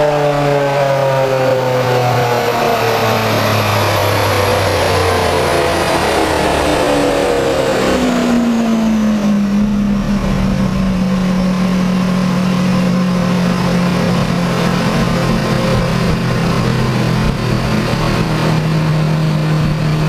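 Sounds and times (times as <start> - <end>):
car engine revving down: 0.0 - 20.0.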